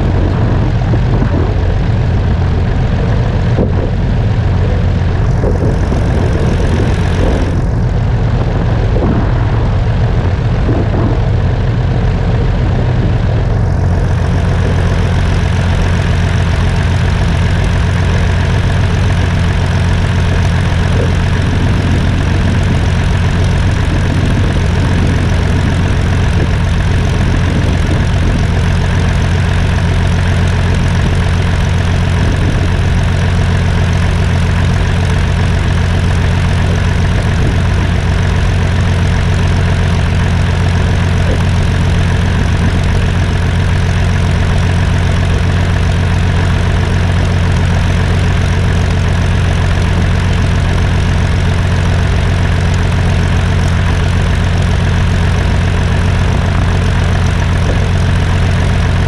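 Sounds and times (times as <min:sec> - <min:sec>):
propeller aircraft engines idling: 0:00.0 - 0:59.0.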